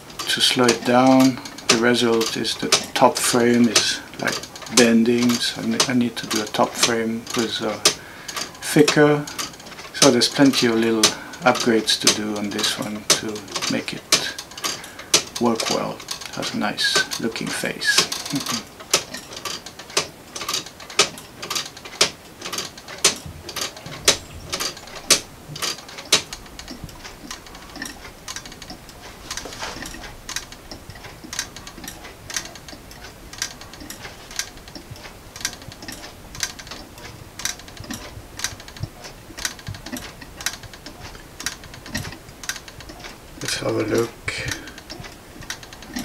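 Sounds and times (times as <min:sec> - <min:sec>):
clock ticking: 0:00.0 - 0:46.0.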